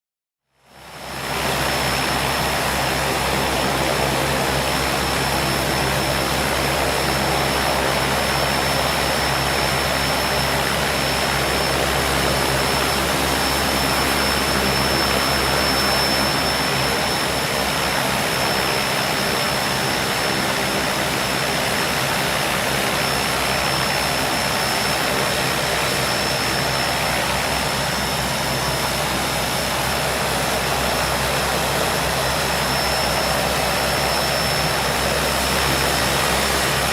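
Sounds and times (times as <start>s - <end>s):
propeller drone: 0.5s - 36.9s
high turbine whine: 0.6s - 36.9s.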